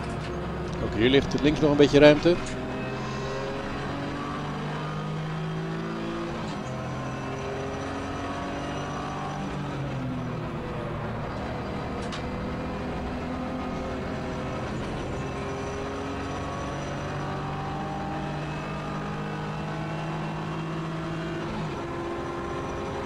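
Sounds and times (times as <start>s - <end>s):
race car engine running hard: 0.0s - 23.0s
road and wind noise: 0.0s - 23.0s.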